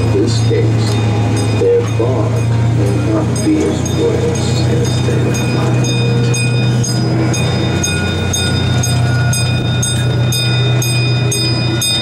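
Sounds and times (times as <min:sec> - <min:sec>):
ride train rolling hum: 0:00.0 - 0:12.0.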